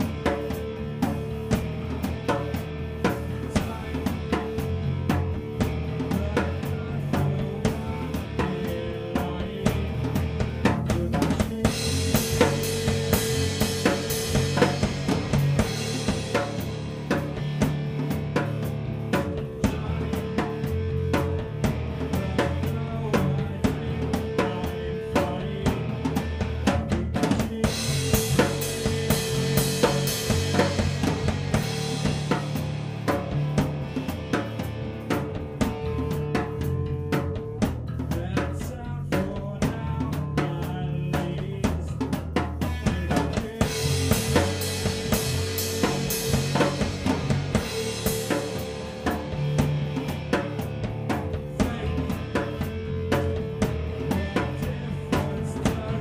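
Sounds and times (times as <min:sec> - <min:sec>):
rock drum groove: 0:00.0 - 0:56.0.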